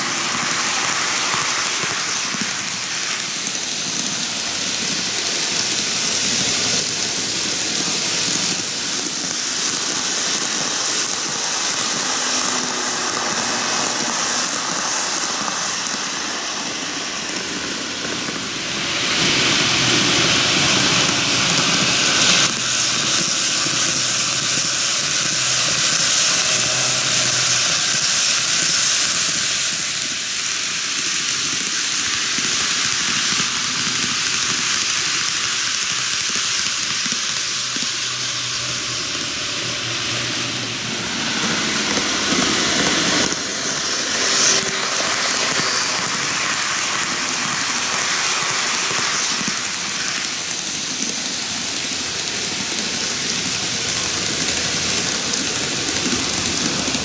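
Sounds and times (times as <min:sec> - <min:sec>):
model trains rattling on track: 0:00.0 - 0:57.0.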